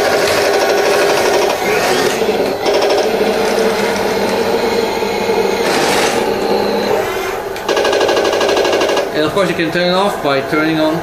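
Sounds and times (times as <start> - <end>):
simulated tank engine on speaker: 0.0 - 7.7, 9.0 - 11.0
gearbox whirring: 0.0 - 11.0.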